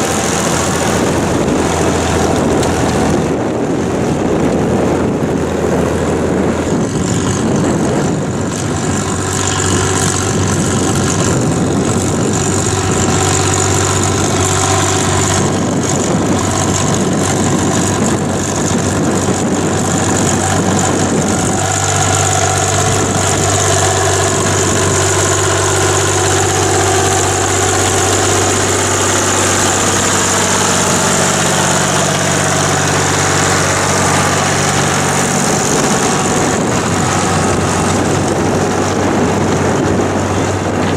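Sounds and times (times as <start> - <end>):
tractor engine working: 0.0 - 40.9
wind buffeting microphone: 0.0 - 40.9.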